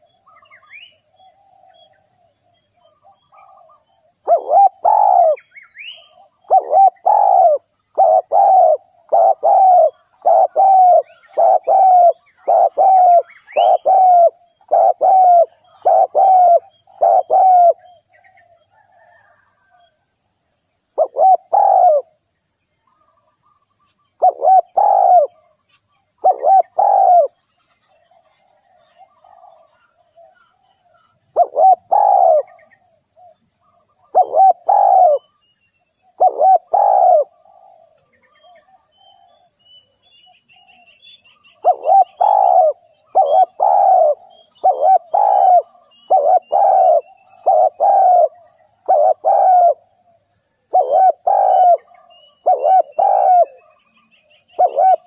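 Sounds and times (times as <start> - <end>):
dove cooing: 0.0 - 19.8, 21.0 - 22.2, 24.2 - 25.6, 26.2 - 27.4, 28.0 - 35.4, 36.0 - 39.6, 41.5 - 55.0.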